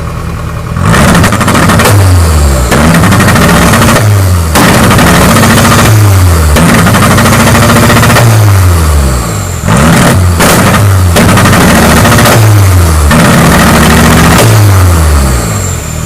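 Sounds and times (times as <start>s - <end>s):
car engine revving: 0.5s - 16.0s.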